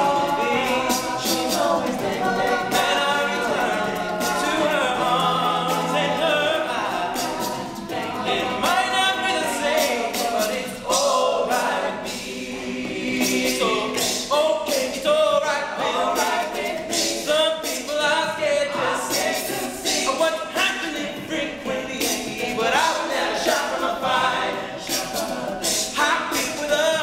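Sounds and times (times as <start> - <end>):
men singing a cappella: 0.0 - 27.0.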